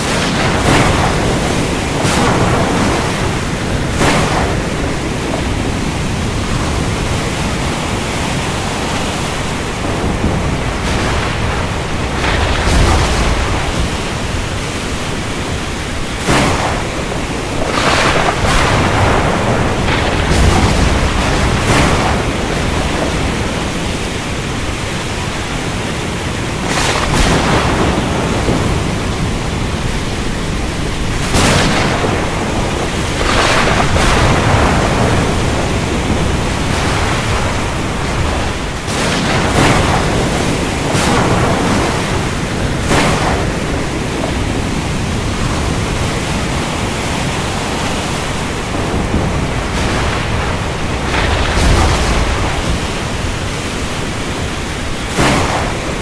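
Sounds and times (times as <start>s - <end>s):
low thunder rumbling: 0.0s - 56.0s
rain and ocean rushing: 0.0s - 56.0s.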